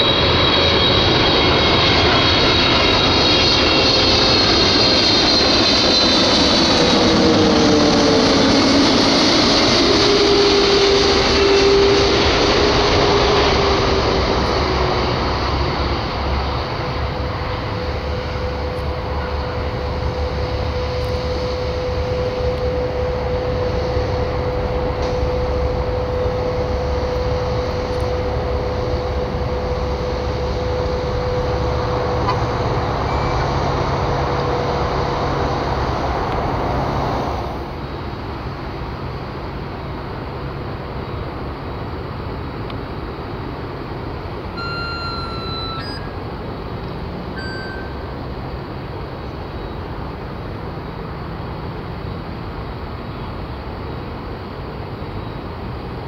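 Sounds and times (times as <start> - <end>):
jet engines rumbling with whine: 0.0 - 56.0.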